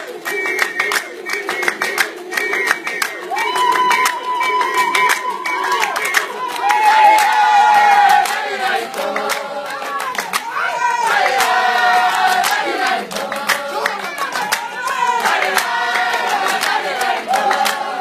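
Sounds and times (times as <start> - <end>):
group singing: 0.0 - 18.0
sharp hand claps: 0.0 - 18.0.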